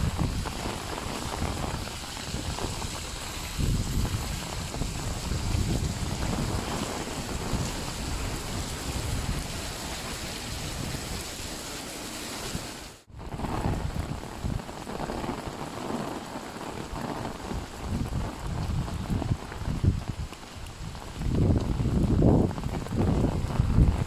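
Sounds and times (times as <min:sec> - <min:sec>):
rain pattering on umbrella: 0:00.0 - 0:24.0.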